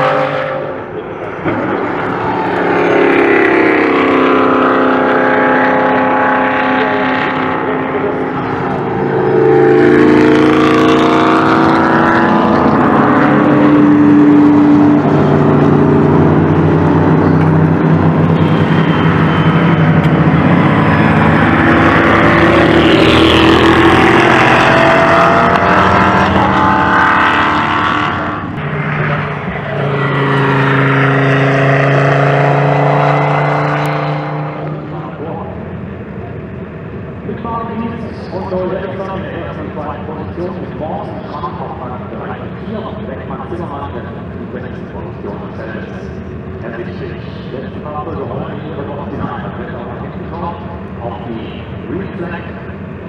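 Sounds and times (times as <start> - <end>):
race cars passing at speed: 0.0 - 53.0.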